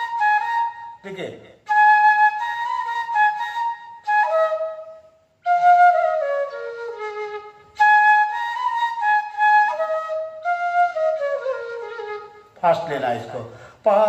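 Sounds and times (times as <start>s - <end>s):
bamboo flute playing: 0.0s - 1.0s, 1.6s - 12.8s.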